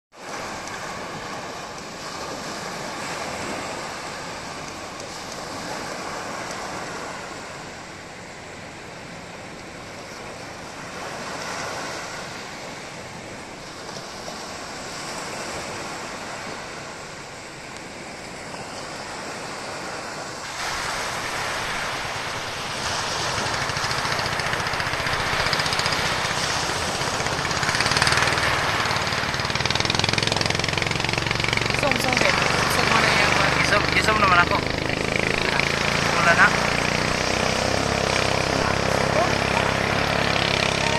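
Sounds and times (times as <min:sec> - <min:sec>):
waves breaking on shore: 0:00.1 - 0:40.9.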